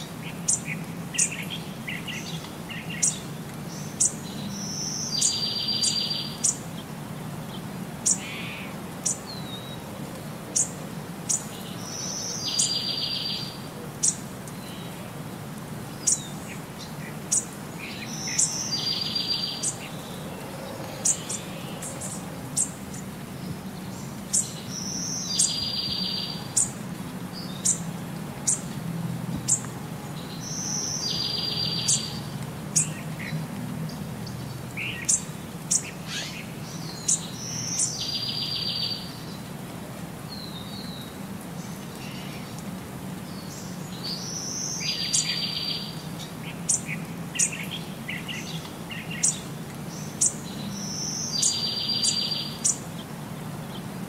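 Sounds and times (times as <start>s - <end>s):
birds chirping: 0.0s - 15.0s, 15.8s - 39.5s, 40.3s - 54.0s.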